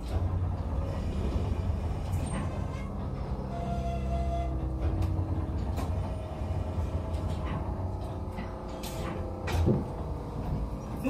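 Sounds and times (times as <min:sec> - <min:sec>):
railcar rumbling on track: 0:00.0 - 0:11.0.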